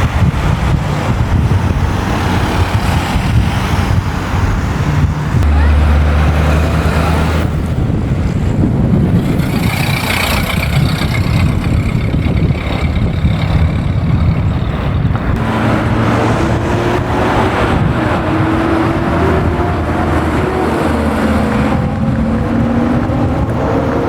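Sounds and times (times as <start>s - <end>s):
car engines running low: 0.0s - 24.0s
engine note rising: 0.0s - 24.0s.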